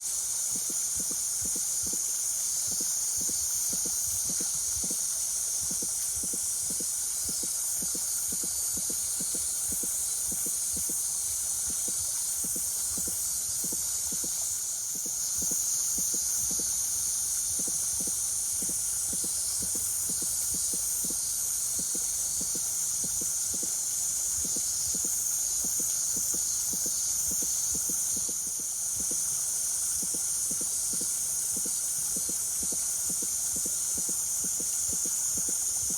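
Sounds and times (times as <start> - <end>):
cicada chorus drone: 0.0 - 35.9.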